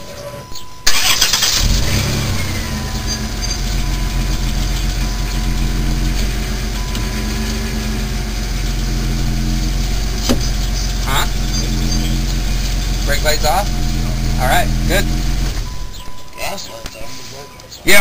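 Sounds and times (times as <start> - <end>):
minivan engine idling: 0.2 - 18.0.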